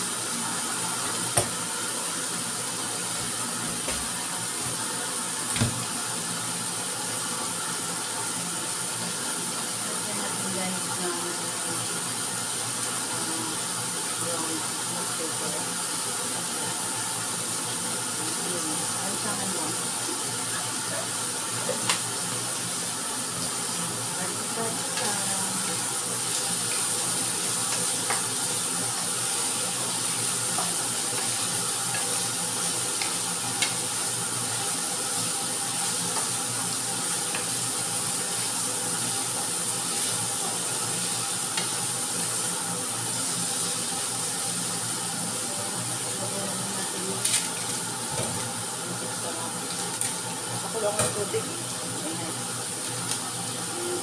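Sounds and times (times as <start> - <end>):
vegetables sizzling in frying pan: 0.0 - 54.0.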